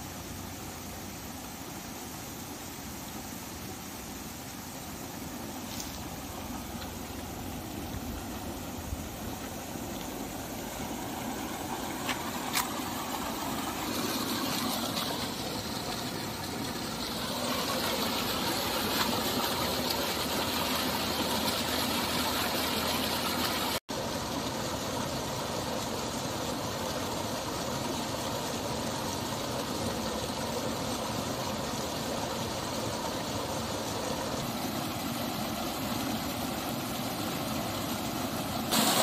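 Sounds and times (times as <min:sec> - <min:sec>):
turbulent water rushing: 0:04.8 - 0:39.0.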